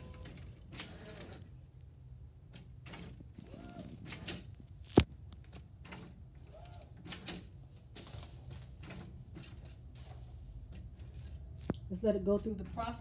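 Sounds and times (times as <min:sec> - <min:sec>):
printer mechanism clicks and whirs: 0:00.0 - 0:01.5, 0:02.5 - 0:11.8.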